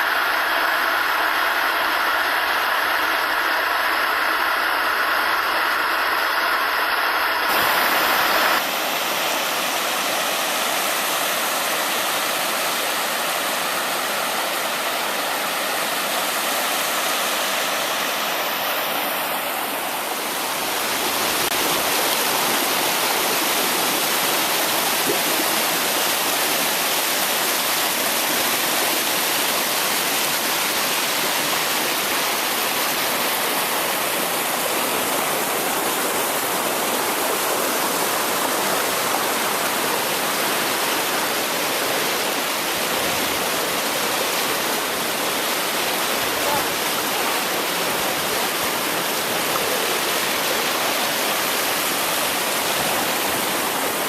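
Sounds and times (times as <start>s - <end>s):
water rushing over falls: 0.0s - 54.0s.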